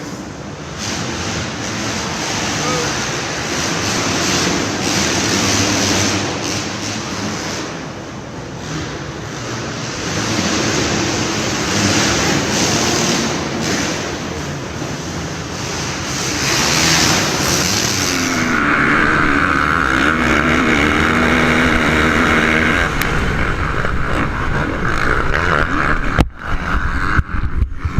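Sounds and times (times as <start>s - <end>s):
dirt bike engines running: 0.0s - 27.9s.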